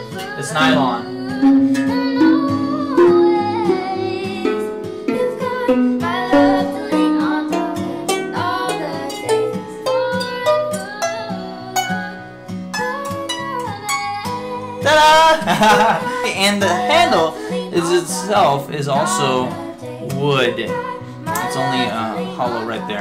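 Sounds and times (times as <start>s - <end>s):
acoustic song with singing: 0.0s - 23.0s.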